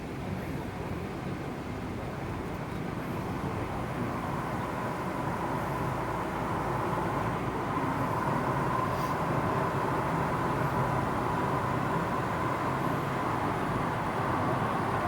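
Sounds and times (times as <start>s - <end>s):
vehicle rumble: 0.0s - 15.0s
vehicle whine: 0.0s - 15.0s.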